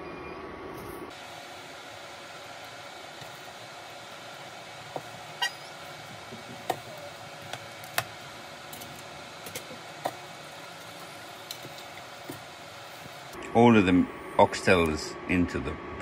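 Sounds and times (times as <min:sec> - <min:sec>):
steady background hiss: 0:01.1 - 0:16.0.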